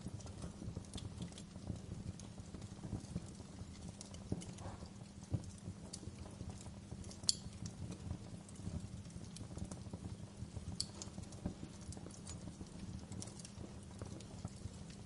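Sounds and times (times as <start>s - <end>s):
fire burning and crackling: 0.0s - 15.0s
sharp fire pops: 0.0s - 15.0s.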